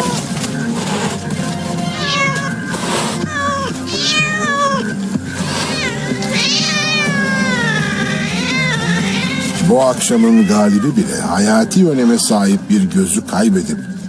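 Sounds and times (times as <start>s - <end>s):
wildcats yowling: 0.0s - 1.2s, 1.8s - 12.4s.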